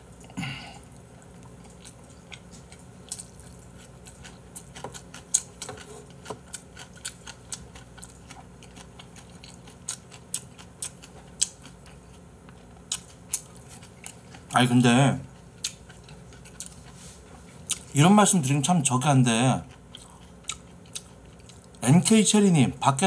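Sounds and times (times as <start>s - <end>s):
faint low hum: 0.0s - 23.0s
chewing smacks: 0.2s - 14.6s, 15.3s - 18.0s, 19.6s - 21.8s.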